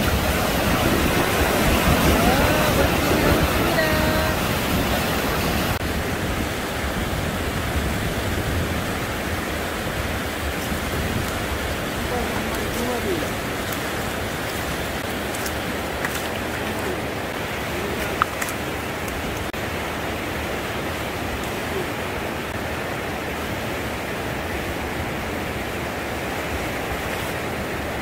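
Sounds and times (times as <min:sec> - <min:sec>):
sea surf on rocky shore: 0:00.0 - 0:28.0.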